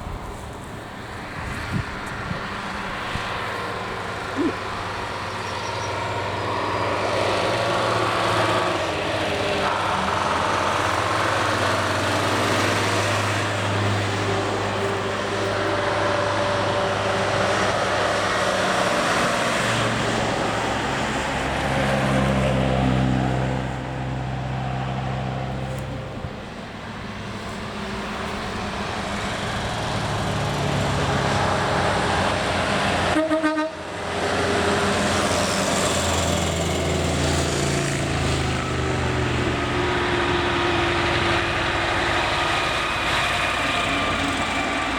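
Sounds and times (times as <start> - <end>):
truck engines driving by: 0.0 - 44.9.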